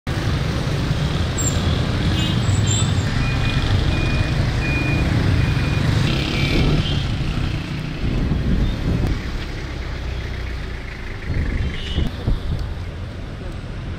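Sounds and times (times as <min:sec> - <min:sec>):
street traffic rumble: 0:00.1 - 0:13.9.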